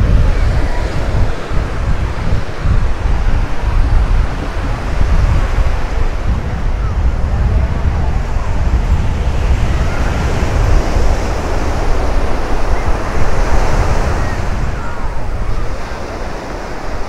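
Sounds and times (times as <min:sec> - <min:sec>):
small waves breaking on beach: 0:00.0 - 0:17.0
wind rumble on microphone: 0:00.0 - 0:17.0.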